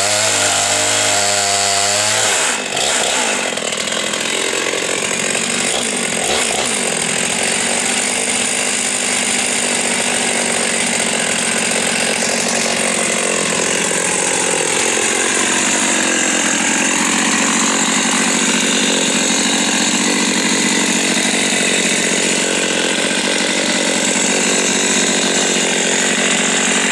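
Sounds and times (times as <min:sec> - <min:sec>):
chainsaw idling: 0:00.0 - 0:26.9.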